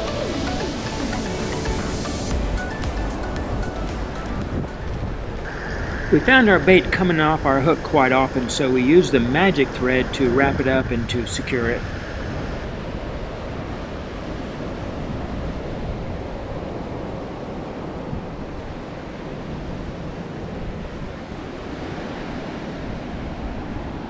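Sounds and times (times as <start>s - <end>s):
ocean surf breaking: 0.0s - 24.0s
wind on microphone: 0.0s - 24.0s.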